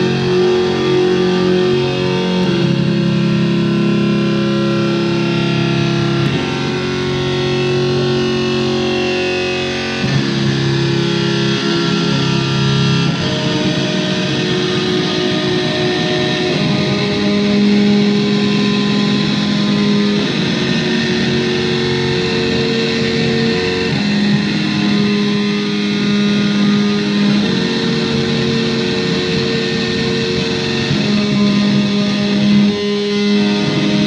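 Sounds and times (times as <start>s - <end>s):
buzzy held chords: 0.0s - 34.0s.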